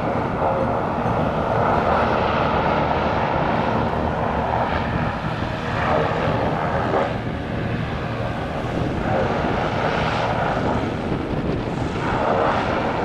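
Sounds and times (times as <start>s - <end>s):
hovercraft engines droning: 0.0s - 13.0s
rush of air and spray: 0.0s - 13.0s.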